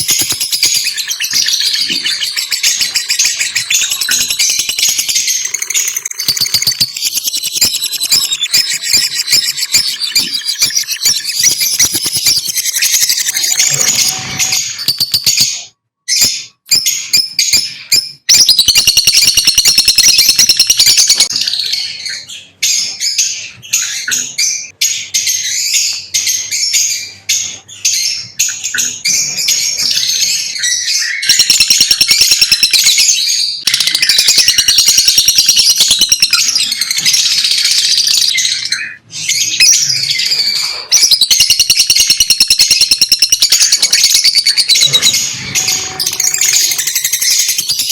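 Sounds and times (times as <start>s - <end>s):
lovebirds chirping: 0.0s - 47.9s.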